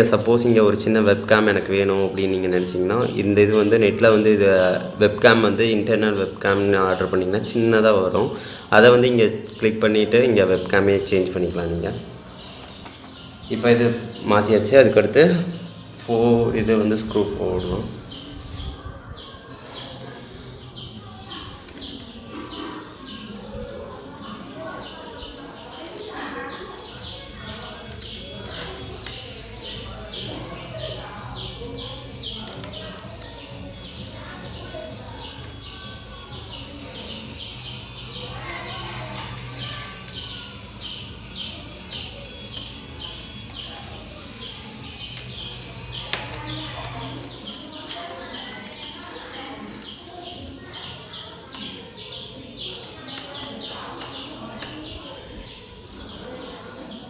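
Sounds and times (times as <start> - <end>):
small bird chirping: 0.0 - 57.0.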